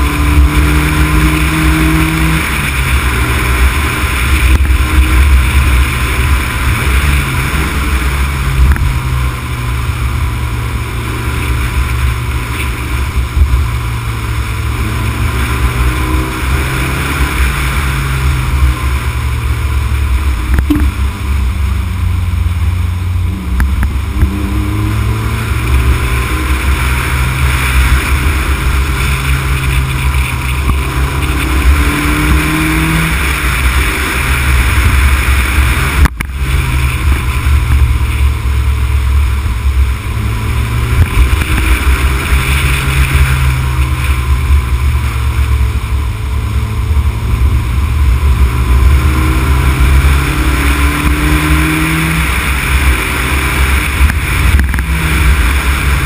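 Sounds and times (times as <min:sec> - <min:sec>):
car engine rising and falling: 0:00.0 - 0:56.0
road rumble: 0:00.0 - 0:56.0.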